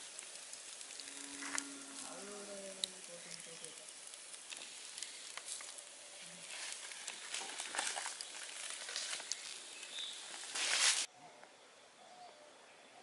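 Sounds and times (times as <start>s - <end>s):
chicken sizzling on a grill: 0.0s - 11.1s.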